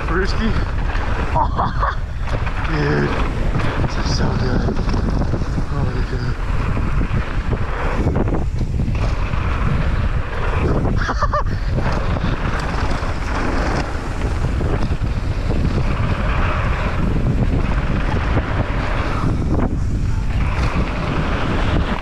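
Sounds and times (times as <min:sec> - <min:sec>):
bike tyres rumbling on dirt: 0:00.0 - 0:22.0
wind buffeting microphone: 0:00.0 - 0:22.0.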